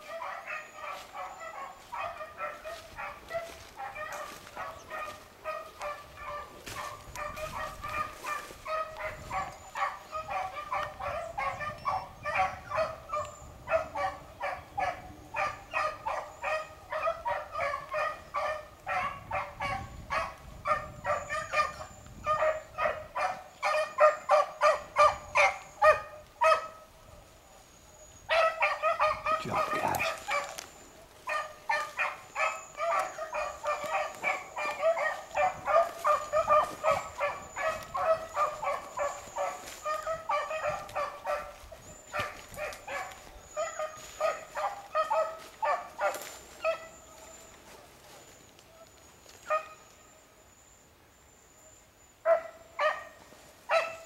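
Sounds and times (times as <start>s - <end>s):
beagles baying: 0.0s - 50.7s, 52.2s - 54.0s.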